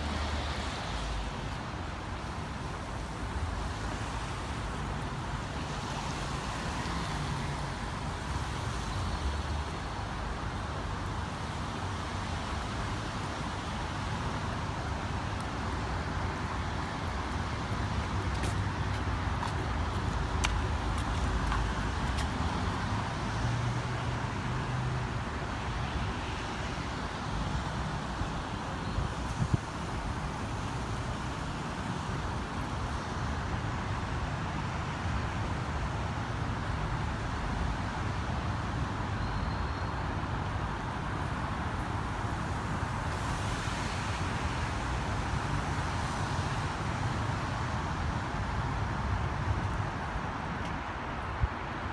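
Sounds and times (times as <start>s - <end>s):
cars passing on wet roads: 0.0s - 51.9s.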